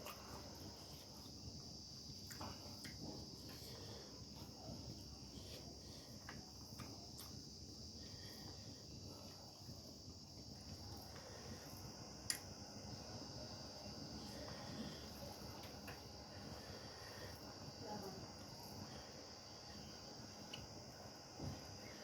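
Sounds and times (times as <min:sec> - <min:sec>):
crickets droning: 0:00.0 - 0:22.0.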